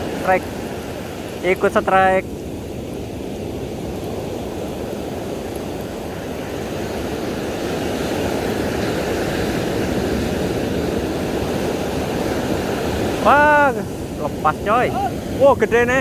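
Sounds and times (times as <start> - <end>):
waves breaking on beach: 0.0 - 16.0
wind on microphone: 0.0 - 16.0.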